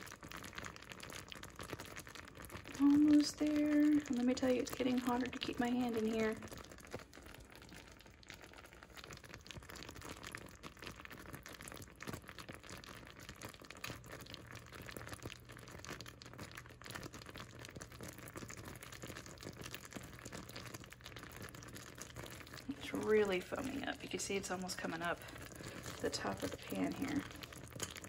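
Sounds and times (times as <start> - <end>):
sugar syrup boiling and bubbling: 0.0 - 28.0.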